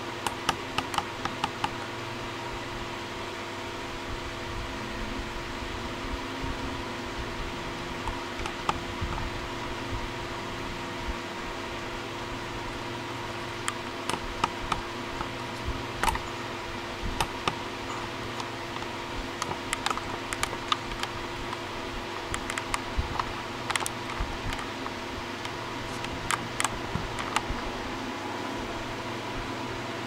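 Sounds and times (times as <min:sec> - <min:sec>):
hard drive clicks: 0:00.0 - 0:02.4, 0:06.1 - 0:27.9
steady hum: 0:00.0 - 0:30.0.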